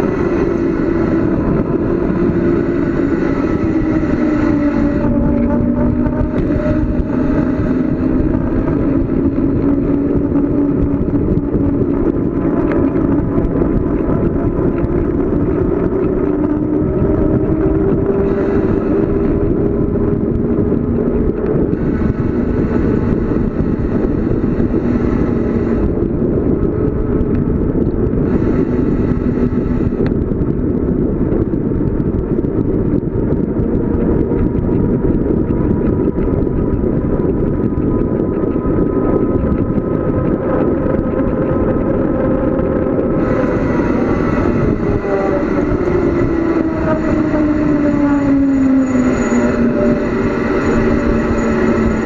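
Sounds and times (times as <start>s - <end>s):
low hum rising in pitch: 0.0s - 52.0s
wind rush and road noise: 0.0s - 52.0s.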